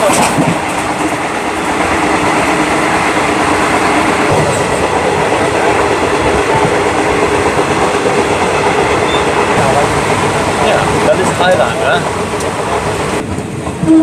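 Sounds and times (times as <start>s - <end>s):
train wheels rumbling and rattling: 0.0s - 14.0s.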